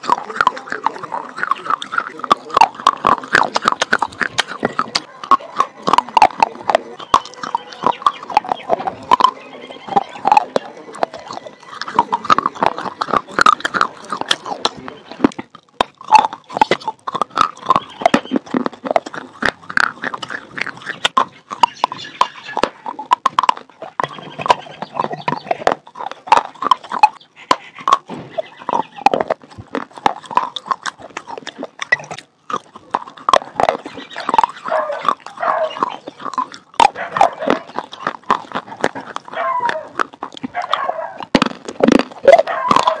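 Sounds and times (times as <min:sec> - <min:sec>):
mouth clicks: 0:00.0 - 0:43.0
wet crunching and chewing: 0:00.0 - 0:43.0.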